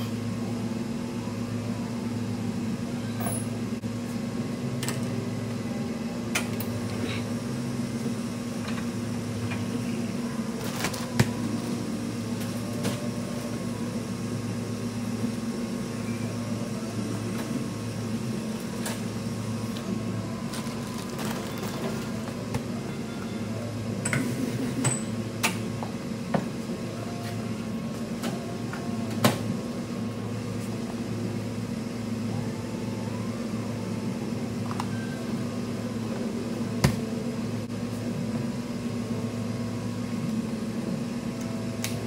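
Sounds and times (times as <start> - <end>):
appliance humming: 0.0 - 42.0.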